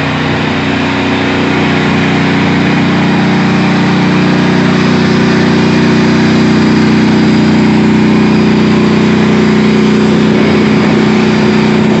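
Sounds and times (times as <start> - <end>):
tank engine humming: 0.0 - 12.0.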